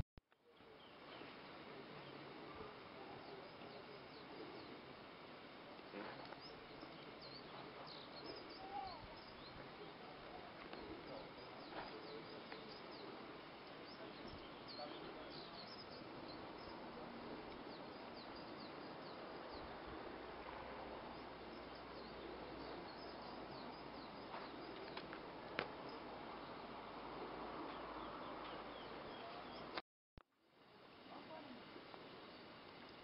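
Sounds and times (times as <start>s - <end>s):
low steady background hiss: 0.3s - 29.8s, 30.4s - 33.0s
small birds chirping: 0.4s - 29.8s, 30.8s - 33.0s.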